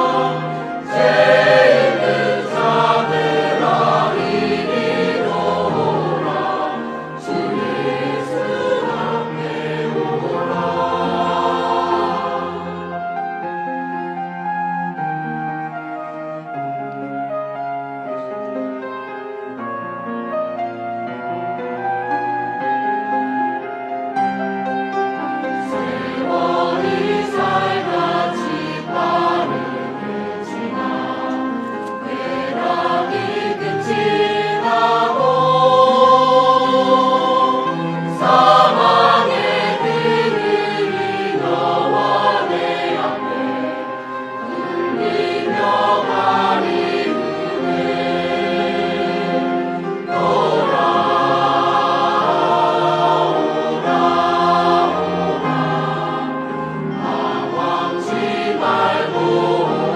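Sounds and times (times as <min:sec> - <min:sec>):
choir singing a hymn: 0:00.0 - 0:16.6, 0:24.2 - 0:59.9.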